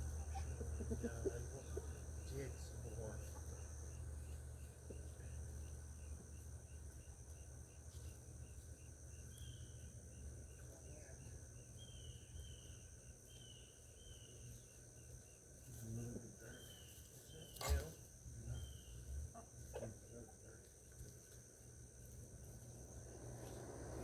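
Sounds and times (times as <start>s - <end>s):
insect chorus trilling: 0.0s - 24.0s.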